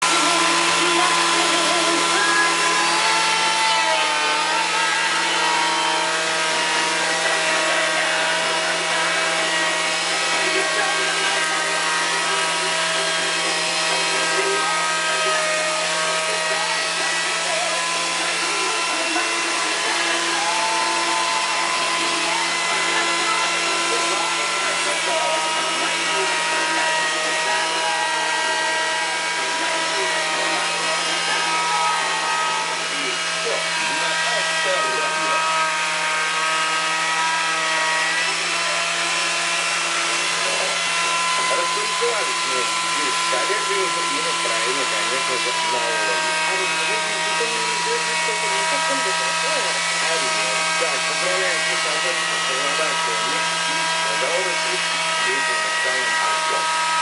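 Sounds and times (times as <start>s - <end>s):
lathe motor hum: 0.0s - 57.0s
tool scraping spinning wood: 0.0s - 57.0s.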